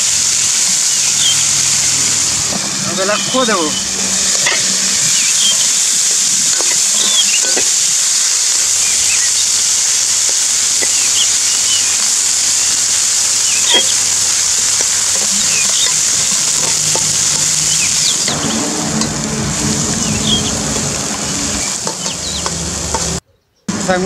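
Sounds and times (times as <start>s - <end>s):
vegetables sizzling in hot oil: 0.0s - 23.2s.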